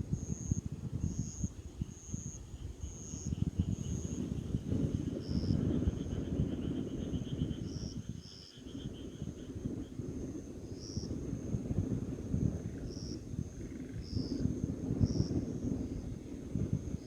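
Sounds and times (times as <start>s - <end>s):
insect chirps: 0.0s - 17.0s.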